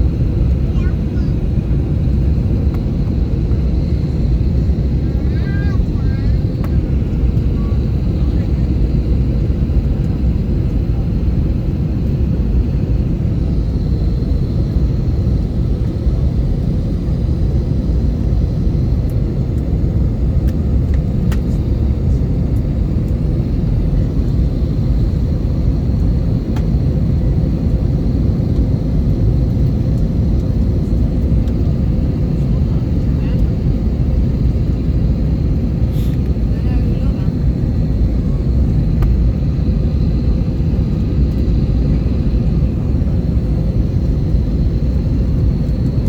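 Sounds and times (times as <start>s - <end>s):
airplane rumble: 0.0s - 46.0s
faint hum and whine: 0.0s - 46.0s.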